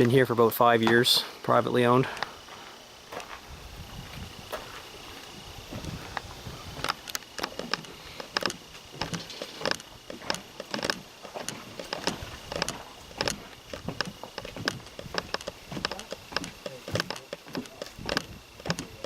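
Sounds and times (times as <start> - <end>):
crunching footsteps: 0.0 - 19.0.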